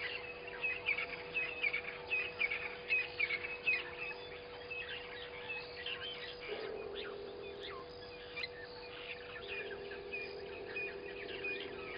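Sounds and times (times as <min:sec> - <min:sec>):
birds chirping: 0:00.0 - 0:11.9
low hum: 0:00.0 - 0:11.9.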